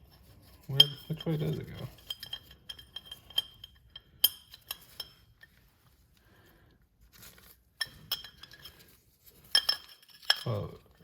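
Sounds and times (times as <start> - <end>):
soft rustle: 0.0 - 3.5, 4.6 - 11.0.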